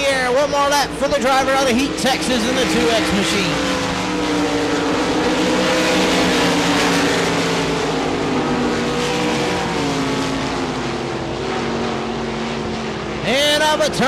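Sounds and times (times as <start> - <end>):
race car engines running: 0.0 - 14.0.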